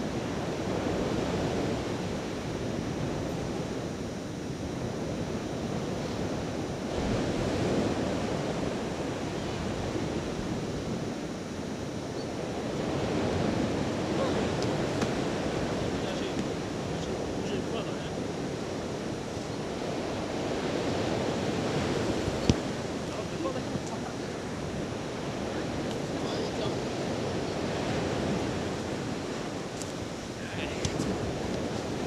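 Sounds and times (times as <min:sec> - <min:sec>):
sea surf washing onto beach: 0:00.0 - 0:32.0
wind on the microphone: 0:00.0 - 0:32.0.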